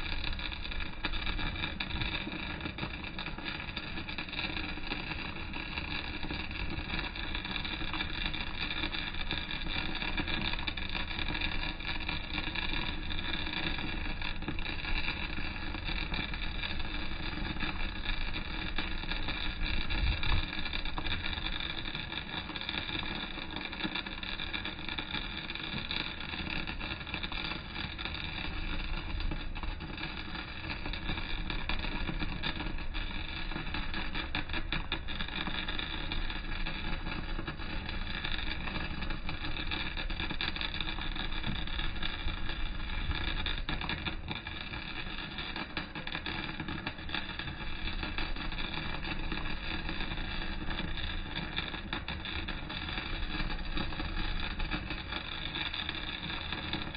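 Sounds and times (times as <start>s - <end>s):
welding arc crackling hiss: 0.0s - 56.9s.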